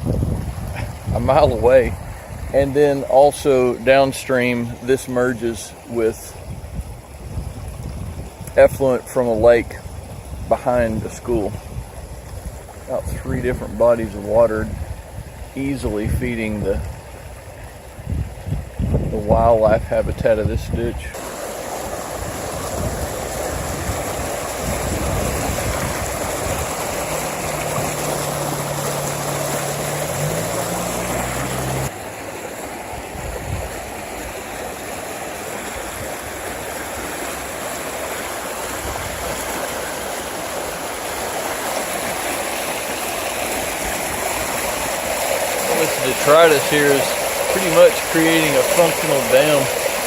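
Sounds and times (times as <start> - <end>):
water rushing down a ditch: 0.0 - 50.0.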